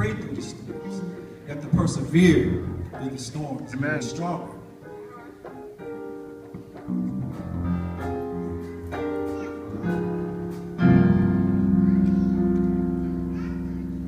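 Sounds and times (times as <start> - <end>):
keyboard playing chords: 0.0 - 14.0.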